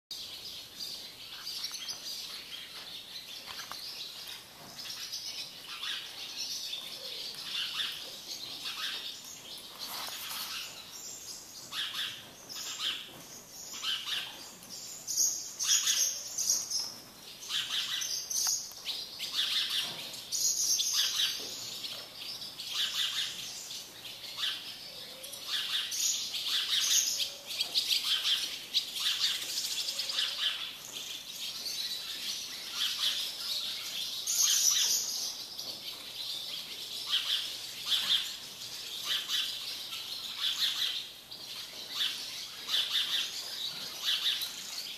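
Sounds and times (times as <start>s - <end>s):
small birds chirping: 0.1s - 44.9s.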